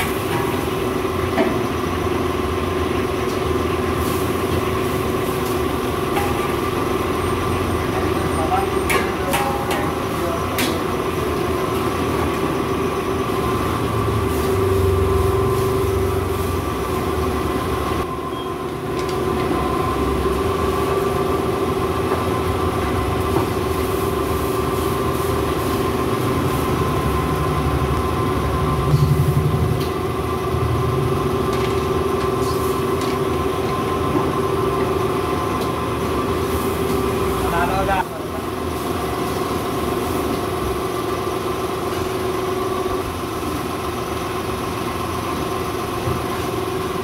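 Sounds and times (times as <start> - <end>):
gas burners roaring: 0.0 - 47.0.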